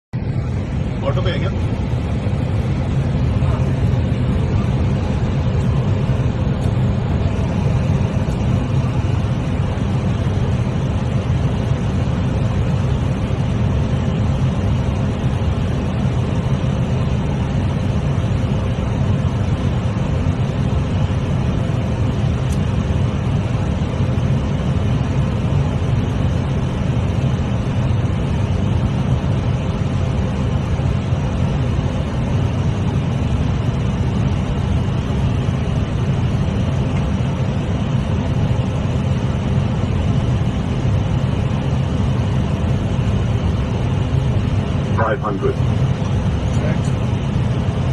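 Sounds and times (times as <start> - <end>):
airflow and engine drone: 0.1 - 47.9
faint constant hum: 0.2 - 47.9.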